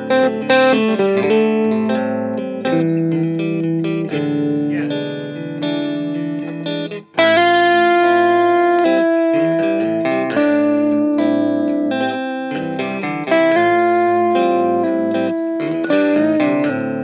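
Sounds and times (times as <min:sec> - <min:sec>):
electric guitar slow lead: 0:00.0 - 0:17.0.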